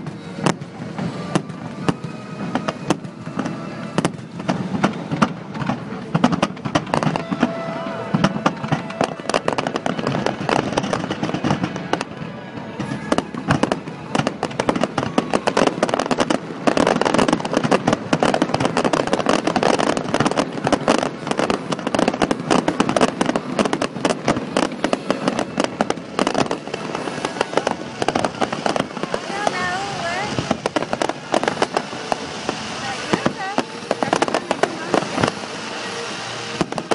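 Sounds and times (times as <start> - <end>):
fireworks crackling: 0.0 - 36.9.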